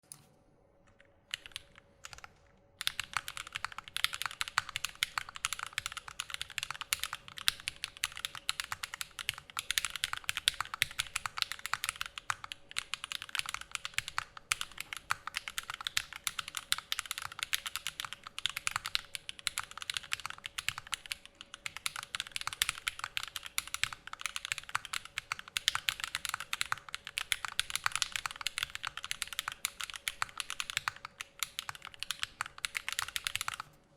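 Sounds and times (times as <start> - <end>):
typing on mechanical keyboard: 0.9 - 33.8.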